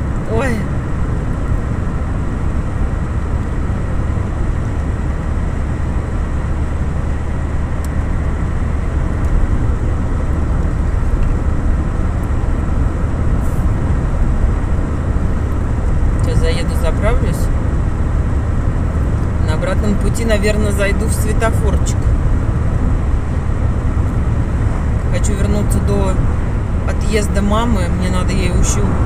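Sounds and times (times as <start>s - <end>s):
car engine rumble: 0.0s - 29.0s.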